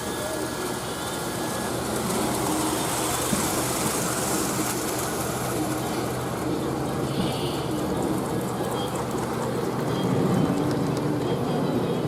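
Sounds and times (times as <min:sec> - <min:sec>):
train passing on rails: 0:00.0 - 0:12.0.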